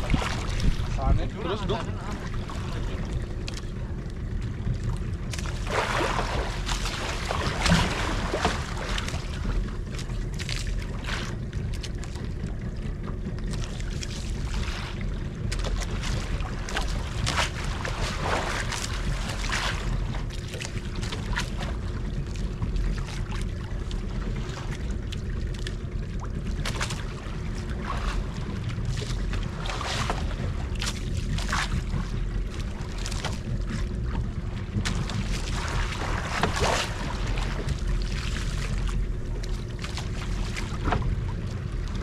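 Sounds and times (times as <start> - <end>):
boat engine running: 0.0 - 42.0
wind and water noise: 0.0 - 42.0.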